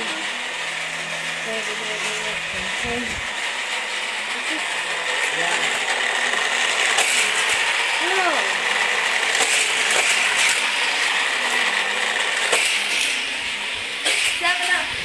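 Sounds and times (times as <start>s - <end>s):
mechanical rattling whir: 0.0s - 15.0s.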